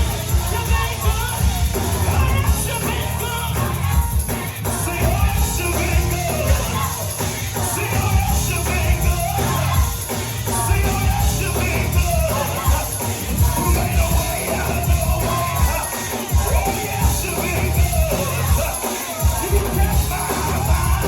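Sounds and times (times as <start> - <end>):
bass line: 0.0 - 21.0
drum beats: 0.0 - 21.0
gospel choir singing: 0.0 - 21.0
live band playing: 0.0 - 21.0.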